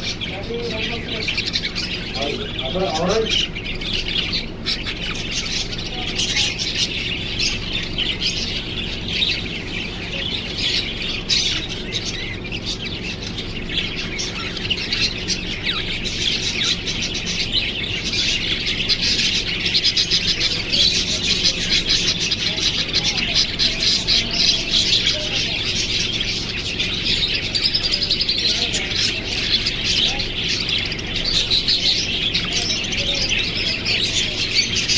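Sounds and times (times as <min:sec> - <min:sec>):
small birds chirping and twittering: 0:00.0 - 0:34.9.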